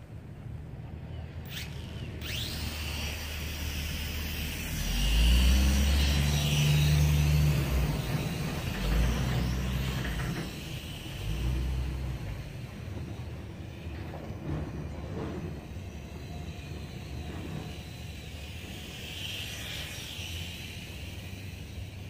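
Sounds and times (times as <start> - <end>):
traffic: 0.0 - 22.0
wind: 0.0 - 22.0
quadcopter motors whining: 1.0 - 22.0.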